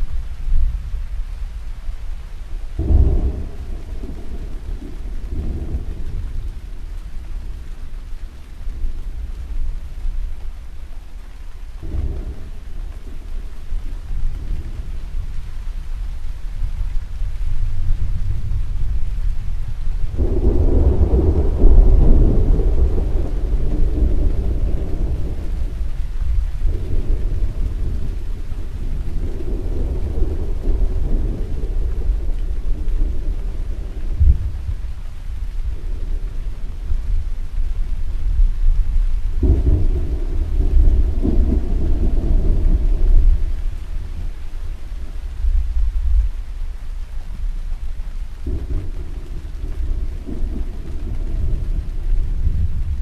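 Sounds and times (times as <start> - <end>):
rain hissing: 0.0 - 53.0
thunder rumbling: 0.0 - 53.0.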